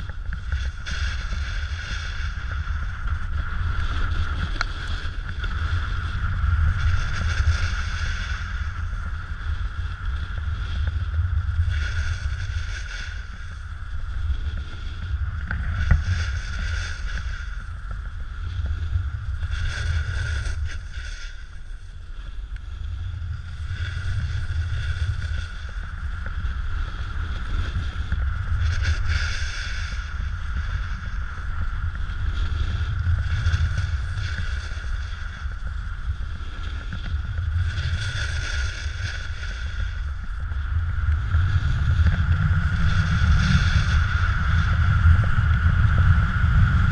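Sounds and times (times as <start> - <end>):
snowboard scraping over snow: 0.0 - 46.9
wind rumble on microphone: 0.0 - 46.9.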